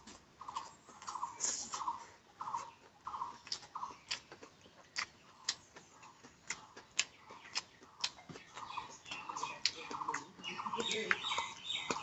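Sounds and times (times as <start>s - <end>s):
crackly chewing: 0.0s - 12.0s
wet mouth clicks while chewing: 0.4s - 12.0s.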